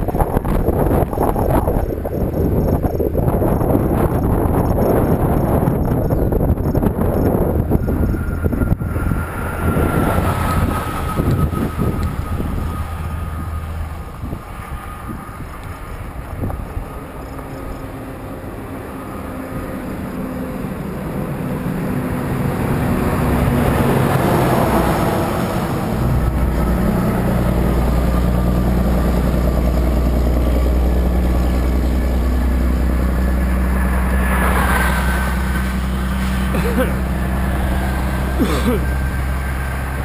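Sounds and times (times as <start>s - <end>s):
highway traffic passing: 0.0s - 40.0s.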